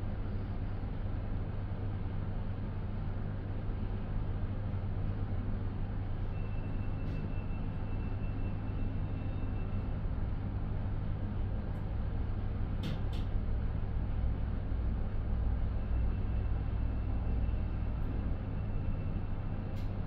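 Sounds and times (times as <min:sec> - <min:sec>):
lift car humming and rumbling: 0:00.0 - 0:20.0.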